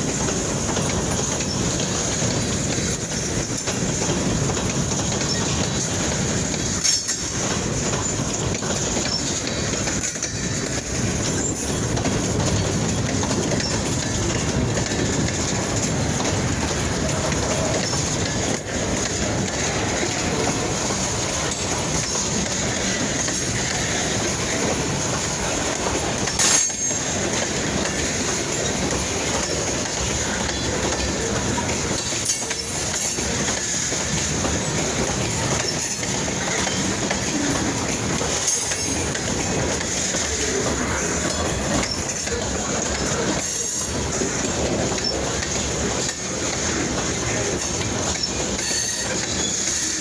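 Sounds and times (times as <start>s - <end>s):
freight train cars rolling: 0.0s - 50.0s.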